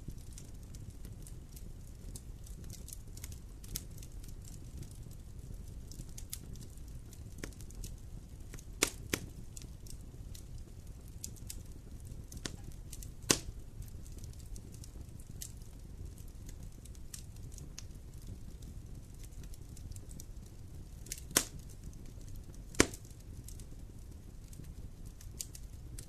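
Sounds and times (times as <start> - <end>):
campfire crackling: 0.0 - 26.0
loud fire pops: 0.0 - 26.0.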